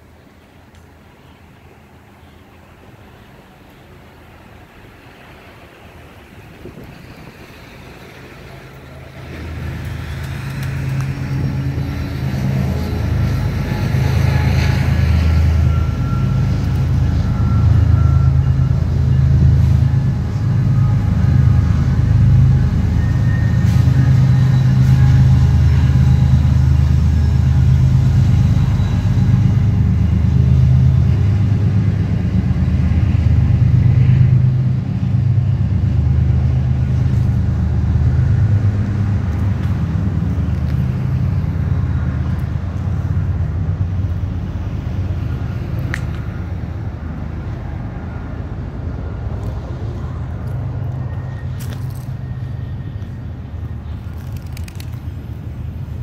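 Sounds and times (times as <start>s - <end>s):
vehicle engine rumble: 0.0s - 56.0s.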